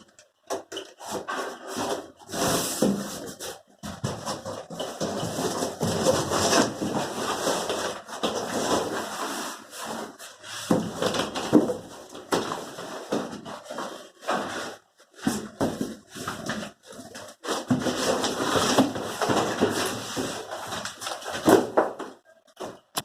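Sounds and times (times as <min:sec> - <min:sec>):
packaging rustling and scraping: 0:00.6 - 0:22.9.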